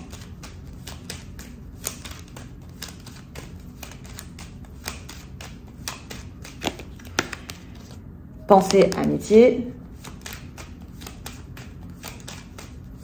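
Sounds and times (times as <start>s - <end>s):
playing cards being shuffled: 0.0s - 8.0s, 9.9s - 13.0s.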